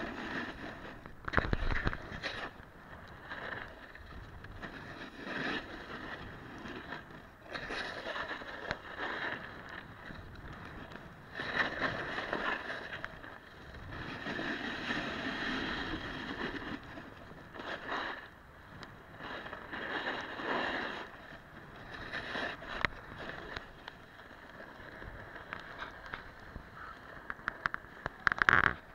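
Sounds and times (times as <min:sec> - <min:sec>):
snowboard scraping on snow: 0:00.0 - 0:27.6.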